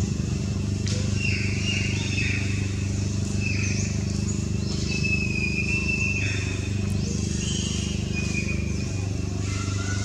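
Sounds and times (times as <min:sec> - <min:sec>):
steady low drone: 0:00.0 - 0:10.0
birds whistling: 0:01.0 - 0:10.0.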